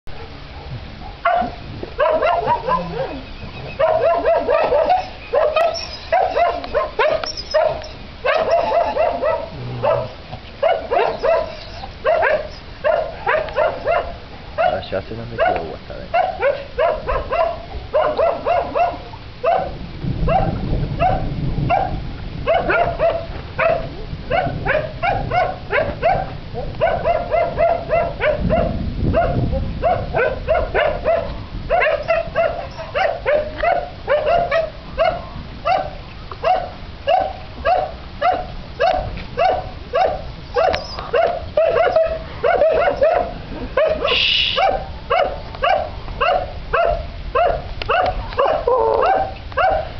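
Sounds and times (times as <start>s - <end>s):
dog barking: 0.1s - 49.9s.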